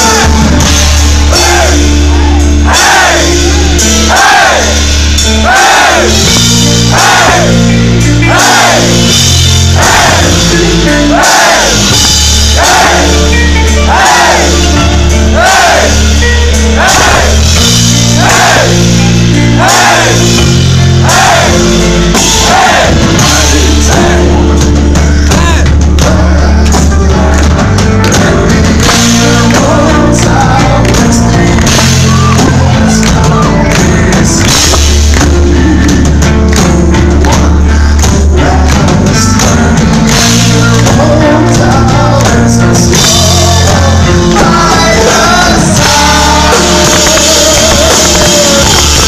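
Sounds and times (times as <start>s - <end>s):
live metal band playing: 0.0s - 49.0s
vocals: 0.0s - 49.0s.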